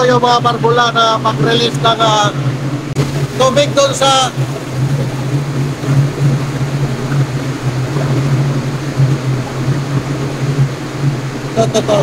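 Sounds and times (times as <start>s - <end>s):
ship machinery drone: 0.0s - 12.0s.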